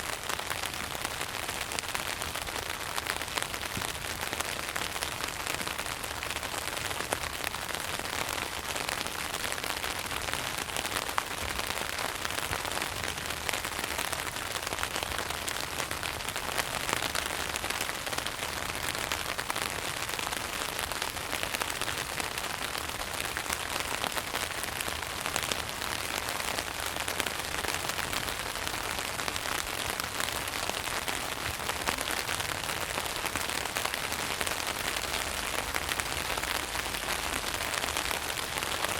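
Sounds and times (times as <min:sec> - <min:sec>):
rain falling on a tent: 0:00.0 - 0:38.9.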